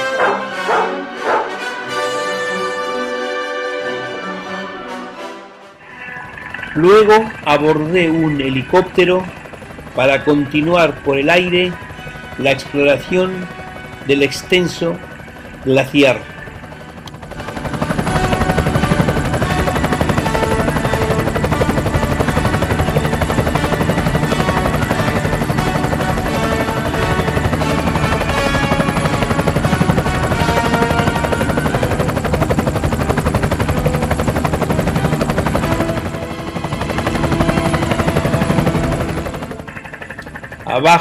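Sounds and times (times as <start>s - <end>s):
helicopter rotor beating: 5.8s - 41.0s.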